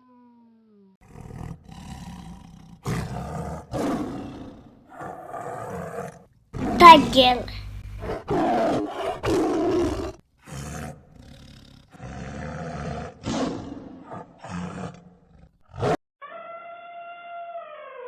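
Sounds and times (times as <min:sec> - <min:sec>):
tiger roaring and growling: 0:01.0 - 0:16.0.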